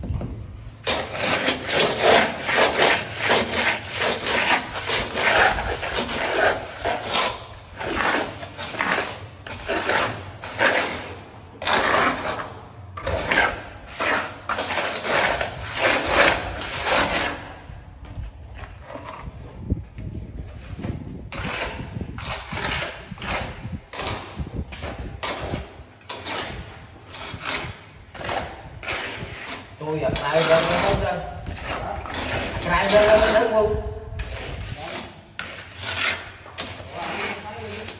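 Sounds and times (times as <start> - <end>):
rough hand tool scraping: 0.8 - 37.9.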